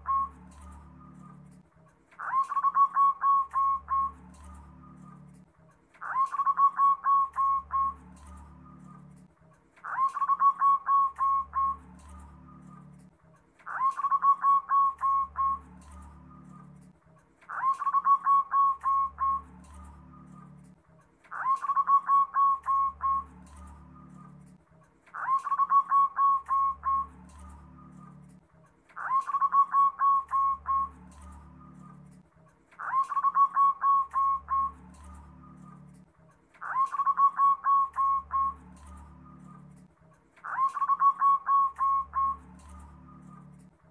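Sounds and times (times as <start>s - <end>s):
dove cooing song: 0.0s - 1.6s, 2.2s - 16.9s, 17.5s - 28.4s, 29.0s - 32.2s, 32.8s - 36.0s, 36.6s - 43.7s.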